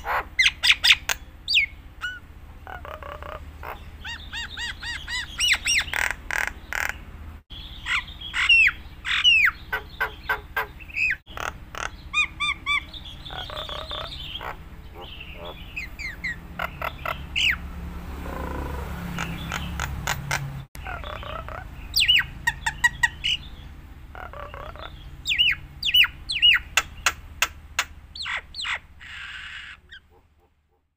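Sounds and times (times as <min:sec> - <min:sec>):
starling singing: 0:00.0 - 0:30.9.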